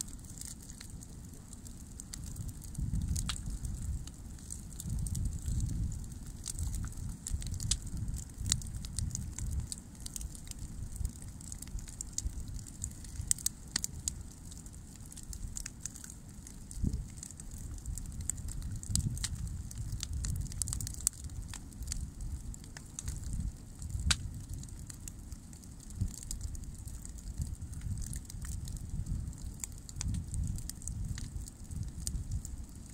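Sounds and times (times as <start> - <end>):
bonfire crackling and popping: 0.0 - 32.9.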